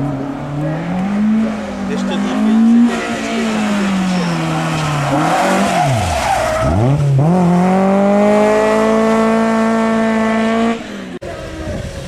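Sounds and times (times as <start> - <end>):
car engine revving high: 0.0 - 11.2.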